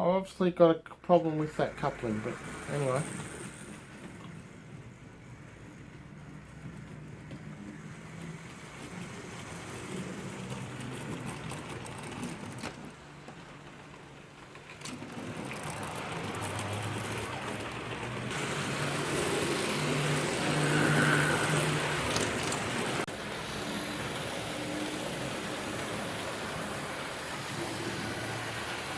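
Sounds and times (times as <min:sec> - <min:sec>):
model train motor whirring: 0:01.6 - 0:28.9.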